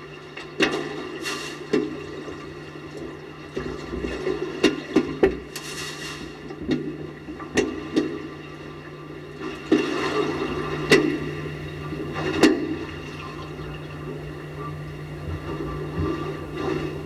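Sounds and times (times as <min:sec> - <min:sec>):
seawater sloshing and gushing: 0:00.0 - 0:17.0
steady low hum: 0:00.0 - 0:17.0.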